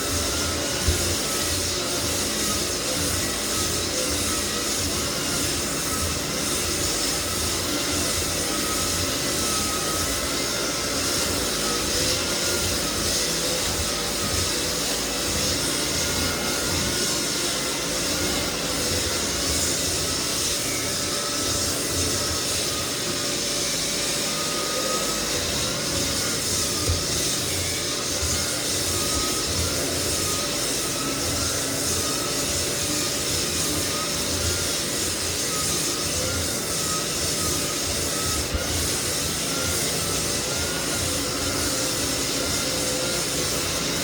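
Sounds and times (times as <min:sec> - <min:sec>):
floor sander running: 0:00.0 - 0:44.0.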